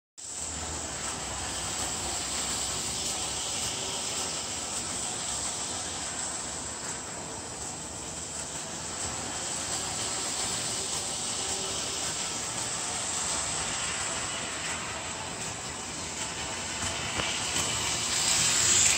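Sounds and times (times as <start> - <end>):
high hiss: 0.2 - 18.9
toy train motor whir: 0.2 - 18.9.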